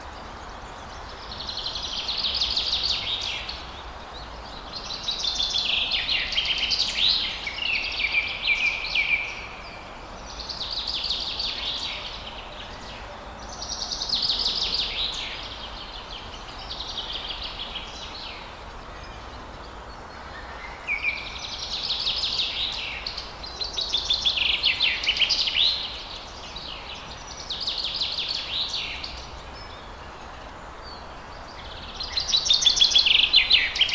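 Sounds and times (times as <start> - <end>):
background hiss: 0.0 - 33.9
songbirds chirping and trilling: 0.0 - 33.9.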